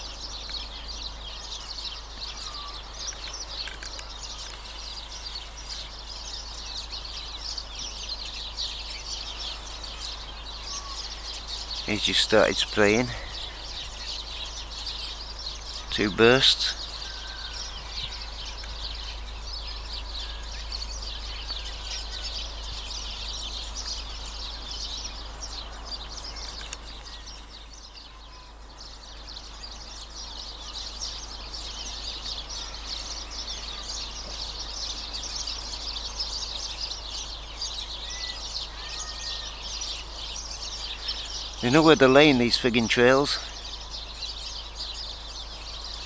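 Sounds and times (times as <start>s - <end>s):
birds chirping and twittering: 0.0s - 46.0s.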